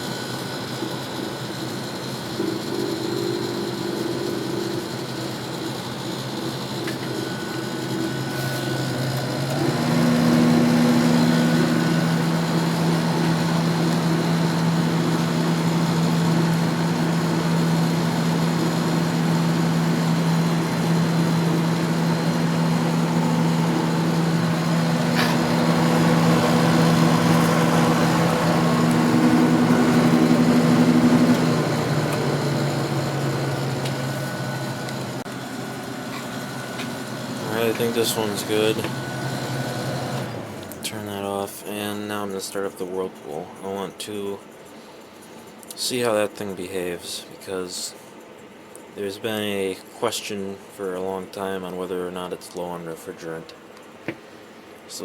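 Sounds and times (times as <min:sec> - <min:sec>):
window air conditioner humming: 0:00.0 - 0:55.0.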